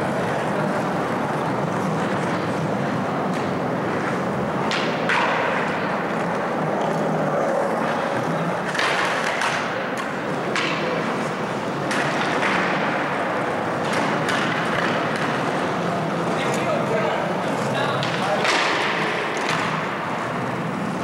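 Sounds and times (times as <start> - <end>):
skateboard wheels rolling on concrete: 0.0 - 21.0
skateboards clacking on concrete: 0.0 - 21.0.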